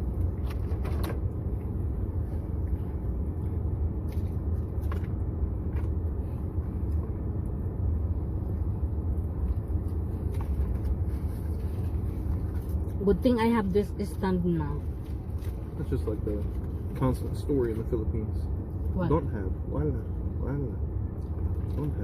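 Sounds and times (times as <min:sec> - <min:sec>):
car engine rumble from inside: 0:00.0 - 0:22.0.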